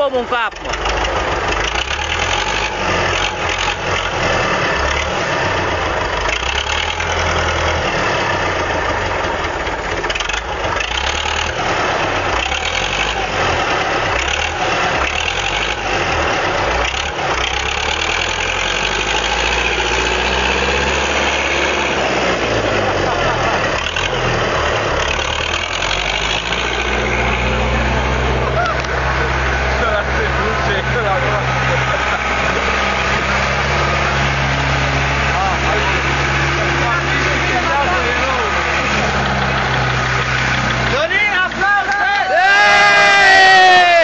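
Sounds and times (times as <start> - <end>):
vehicle engines rumbling: 0.0 - 44.0.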